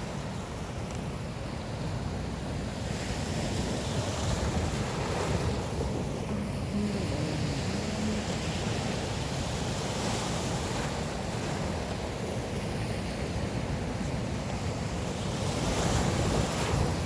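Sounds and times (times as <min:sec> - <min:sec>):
sea surf washing on shore: 0:00.0 - 0:17.0.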